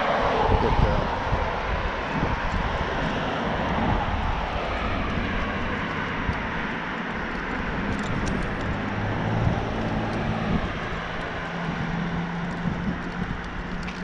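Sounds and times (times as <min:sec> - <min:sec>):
bicycle tyres rolling on concrete: 0:00.0 - 0:14.0.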